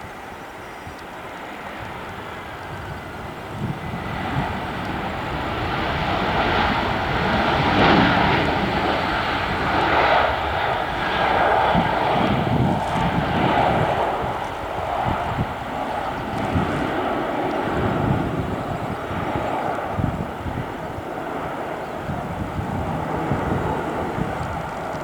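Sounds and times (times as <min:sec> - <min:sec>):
airliner jet engines passing: 0:00.0 - 0:25.0.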